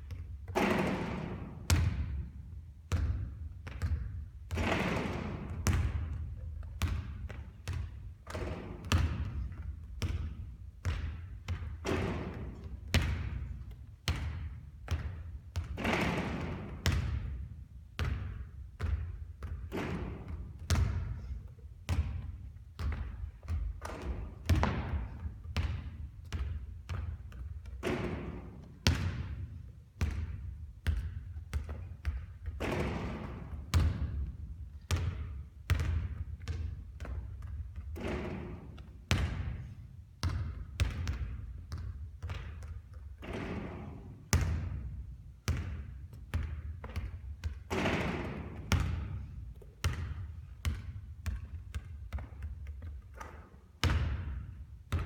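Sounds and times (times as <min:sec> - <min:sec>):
basketballs bouncing on a court: 0:00.0 - 0:55.0.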